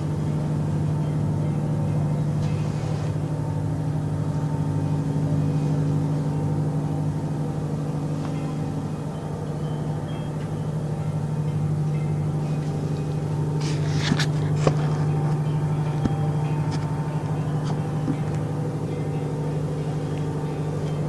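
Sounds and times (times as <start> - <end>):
low droning hum: 0.0 - 21.0.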